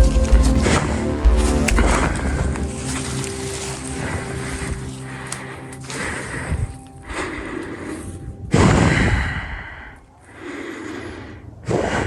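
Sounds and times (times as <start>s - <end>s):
person breathing heavily: 1.5s - 12.0s.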